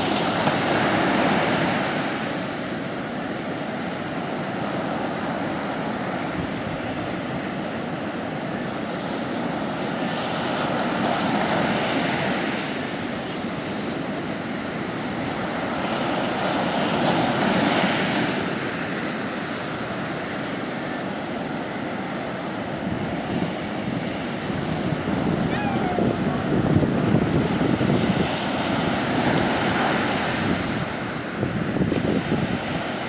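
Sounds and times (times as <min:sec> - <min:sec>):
sea waves breaking on beach: 0:00.0 - 0:33.0.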